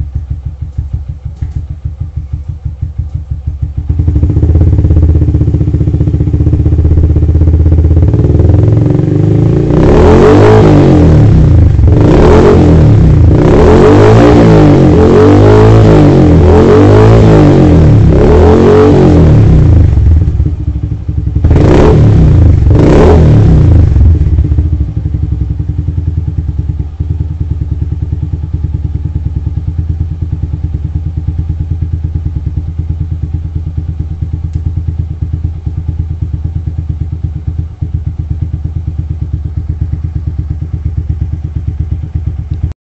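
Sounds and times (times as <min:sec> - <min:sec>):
motorcycle engine revving: 0:00.0 - 0:42.8.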